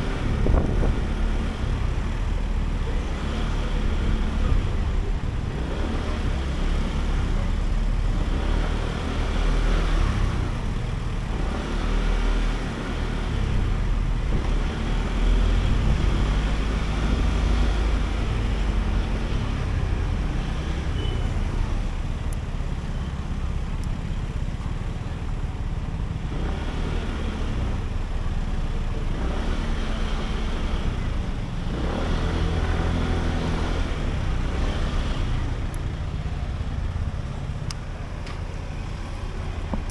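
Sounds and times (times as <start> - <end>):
road noise: 0.0 - 39.9
scooter engine running: 0.0 - 39.9.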